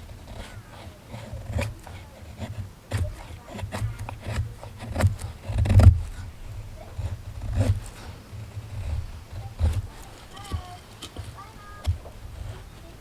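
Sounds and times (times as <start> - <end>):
knife scraping wood: 0.0 - 13.0.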